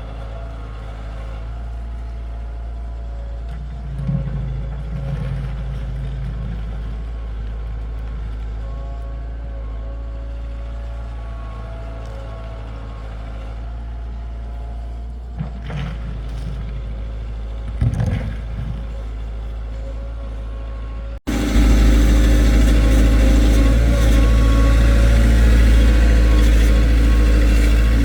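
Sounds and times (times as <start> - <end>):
heavy vehicle engine droning: 0.0 - 28.0.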